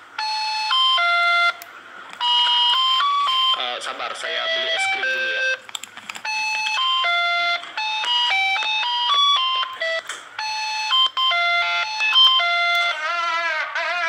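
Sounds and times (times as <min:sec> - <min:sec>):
ice cream van electronic jingle: 0:00.0 - 0:14.0.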